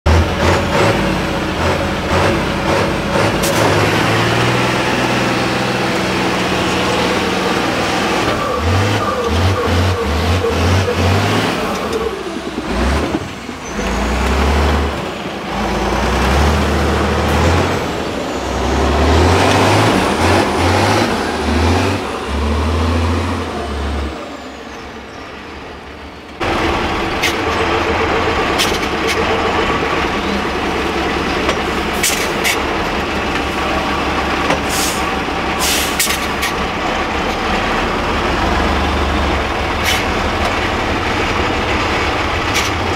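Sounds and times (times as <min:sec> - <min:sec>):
truck diesel engine revving: 0:00.0 - 0:42.9.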